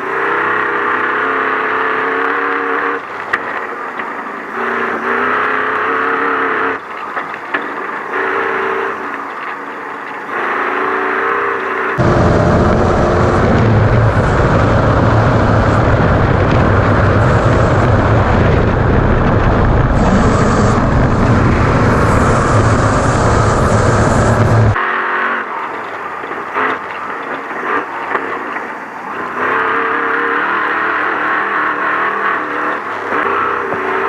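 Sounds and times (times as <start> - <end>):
race truck engine roaring: 0.0 - 34.0
steady engine drone: 0.0 - 34.0.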